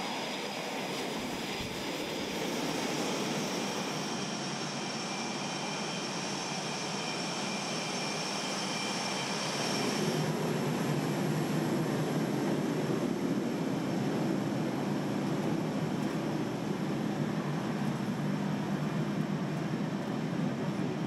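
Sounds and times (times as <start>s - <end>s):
jet machinery high whine: 0.0s - 21.0s
jet machinery low rumble: 0.0s - 21.0s.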